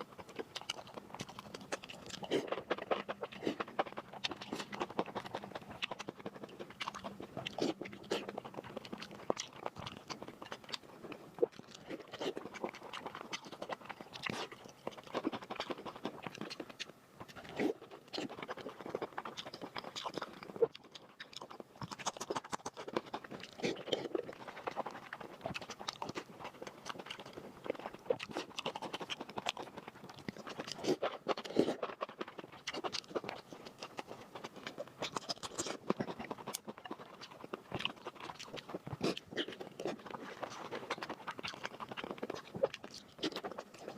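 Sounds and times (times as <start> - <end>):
crunchy bites: 0.2 - 43.9.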